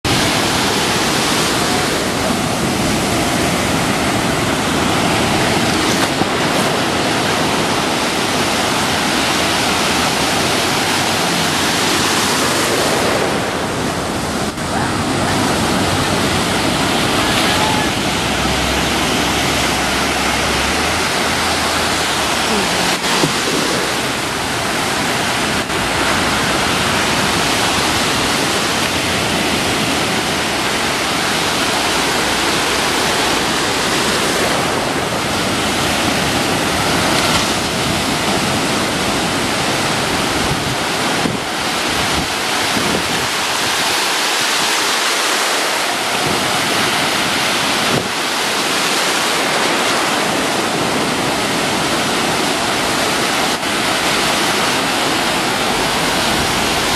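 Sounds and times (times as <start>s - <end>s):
ocean surf breaking: 0.0s - 56.9s.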